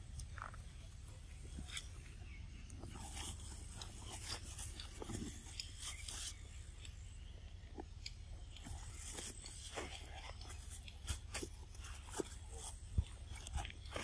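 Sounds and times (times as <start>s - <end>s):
monkeys chewing corn: 0.0s - 14.0s.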